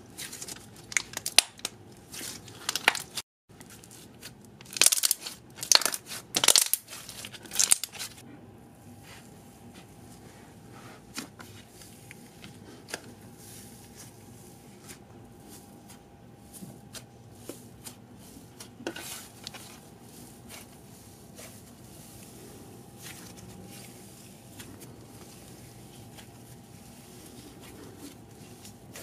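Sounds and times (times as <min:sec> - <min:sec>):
slime squishing: 0:00.2 - 0:08.2, 0:11.1 - 0:29.0.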